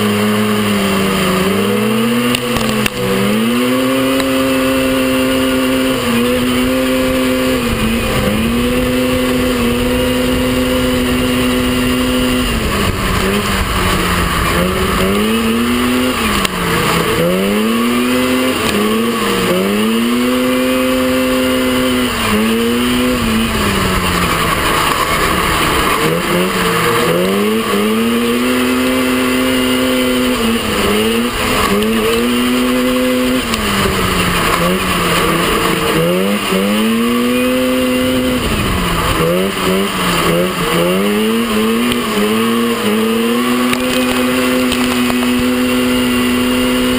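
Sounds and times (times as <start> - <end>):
buggy engine revving: 0.0 - 46.9
rush of wind and dirt: 0.0 - 46.9.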